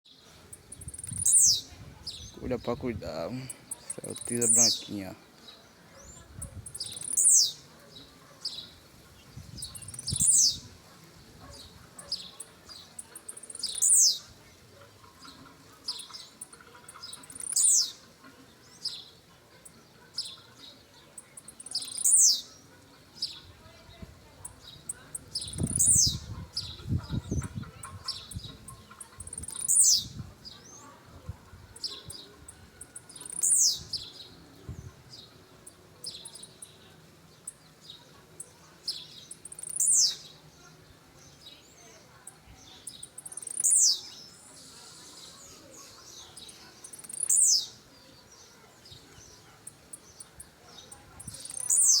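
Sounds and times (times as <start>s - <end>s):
bird singing short song: 0.1s - 10.8s, 11.4s - 14.4s, 15.2s - 18.1s, 18.7s - 30.9s, 31.8s - 40.5s, 41.2s - 52.0s.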